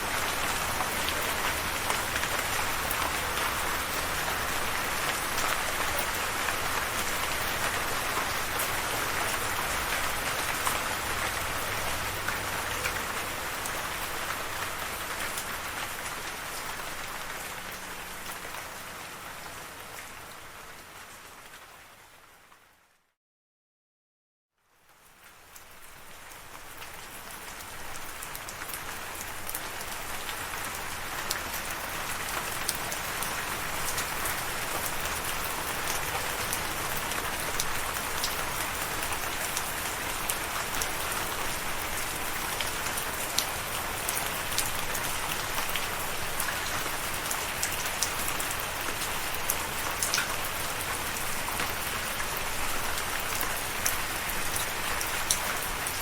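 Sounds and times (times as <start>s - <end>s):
steady rain falling: 0.0s - 23.0s, 24.6s - 56.0s.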